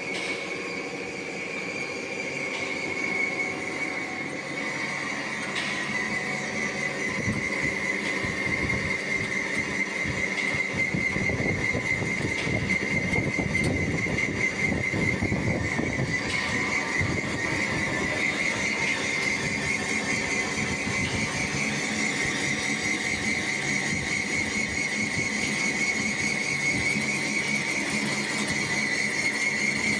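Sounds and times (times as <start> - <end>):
turning machine whine: 0.0 - 29.9.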